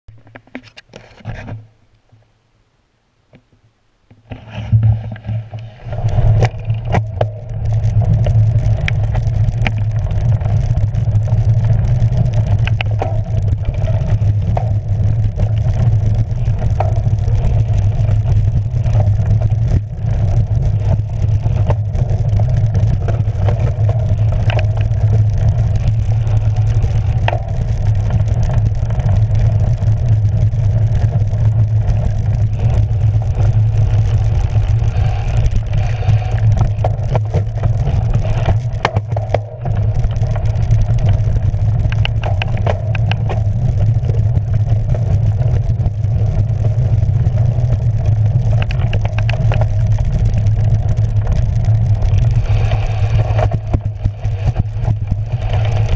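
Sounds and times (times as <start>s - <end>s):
bike tyre and frame rumble: 4.1s - 55.9s
bike knocks and rattles: 4.2s - 55.9s.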